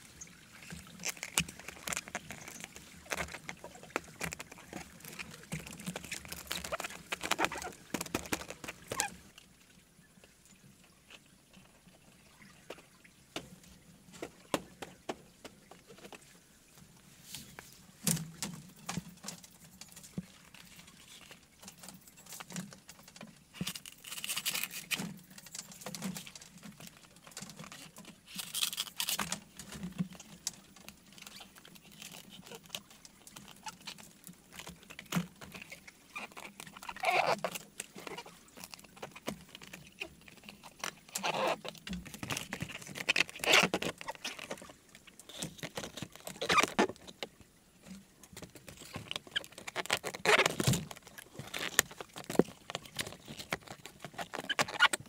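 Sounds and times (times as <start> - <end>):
hands rustling and scraping plant slabs: 0.0 - 9.4, 13.4 - 55.0.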